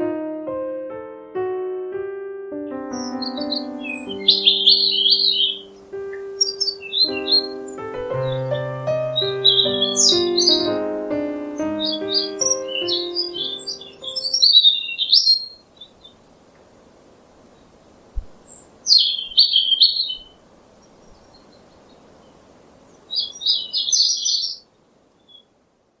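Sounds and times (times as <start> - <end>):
faint background hiss: 2.7 - 26.0
songbird chirping: 2.7 - 26.0.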